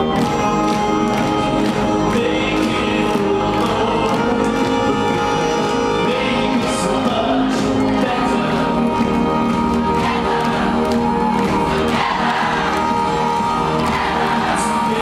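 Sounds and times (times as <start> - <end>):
live band music: 0.0 - 15.0
voices singing: 1.3 - 15.0.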